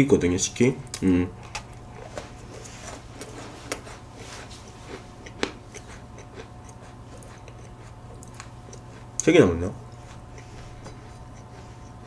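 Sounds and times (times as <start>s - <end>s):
person crunching cookie: 0.9s - 12.0s.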